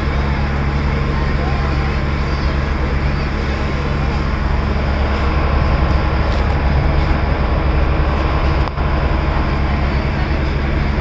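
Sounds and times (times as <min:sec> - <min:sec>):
boat engine droning: 0:00.0 - 0:11.0
rushing water: 0:00.0 - 0:11.0.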